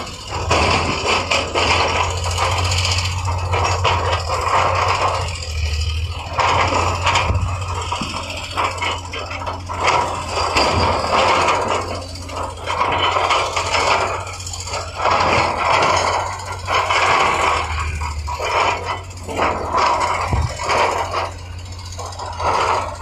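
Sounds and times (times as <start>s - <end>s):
low engine hum: 0.0s - 23.0s
machinery scraping and grinding: 0.0s - 23.0s.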